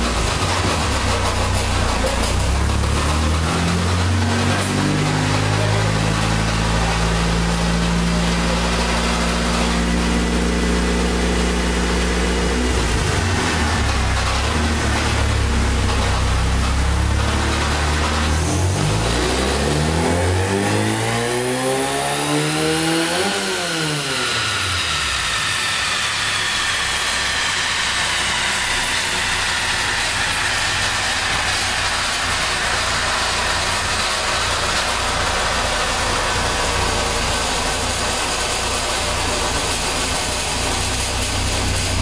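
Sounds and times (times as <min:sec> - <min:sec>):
car engine revving and idling: 0:00.0 - 0:42.0
high whine: 0:00.0 - 0:42.0.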